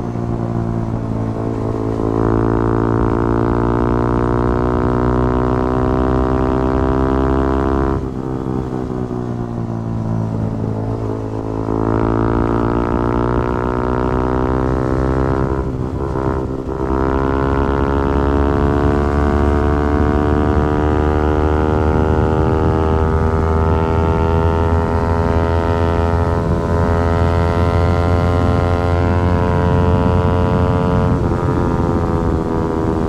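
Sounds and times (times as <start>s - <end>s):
motorcycle engine revving up: 0.0s - 8.2s, 10.4s - 33.0s.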